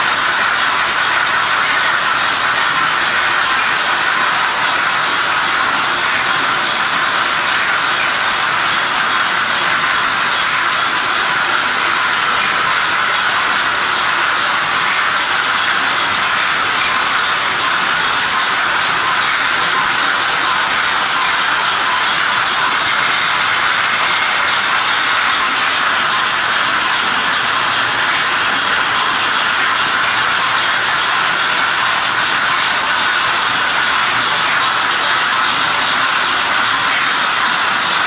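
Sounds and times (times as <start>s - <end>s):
model trains whirring on rails: 0.0s - 38.0s.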